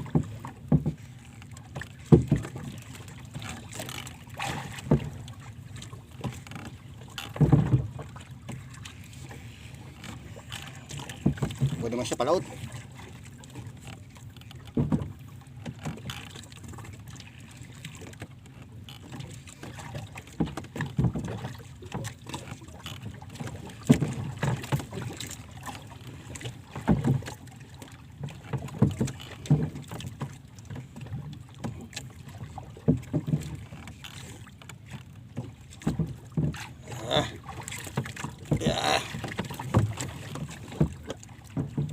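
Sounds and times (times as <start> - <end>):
water lapping against boat hull: 0.0 - 41.9.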